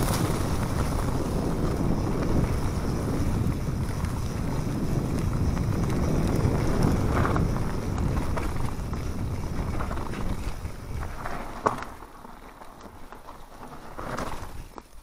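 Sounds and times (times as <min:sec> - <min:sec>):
wind rushing on microphone: 0:00.0 - 0:12.1
bike rattling: 0:00.0 - 0:15.0
bike tyres rolling over dirt: 0:00.0 - 0:15.0.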